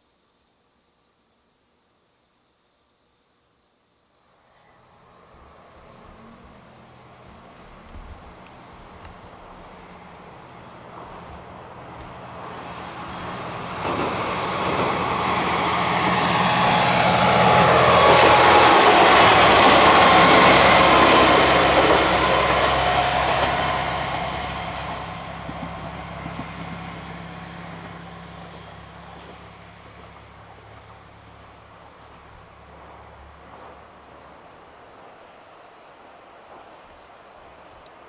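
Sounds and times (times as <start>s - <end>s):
diesel railcar passing: 4.3s - 38.0s.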